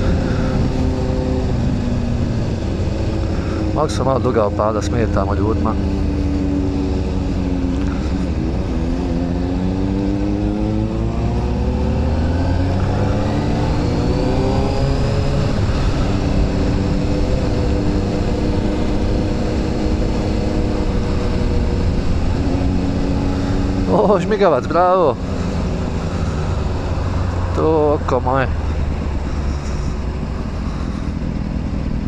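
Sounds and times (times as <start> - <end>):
motorcycle engine: 0.0 - 32.0
wind and road noise: 0.0 - 32.0.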